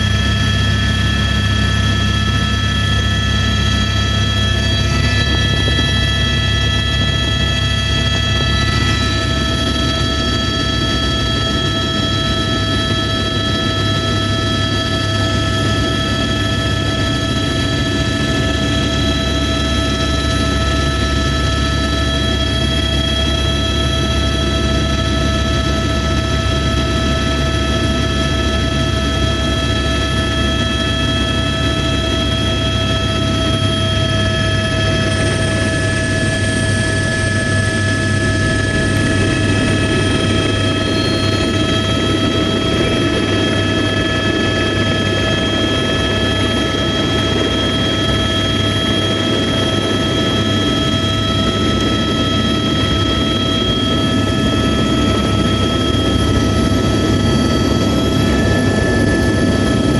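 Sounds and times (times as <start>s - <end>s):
helicopter engine whine: 0.0s - 59.9s
helicopter rotor rumble: 0.0s - 59.9s.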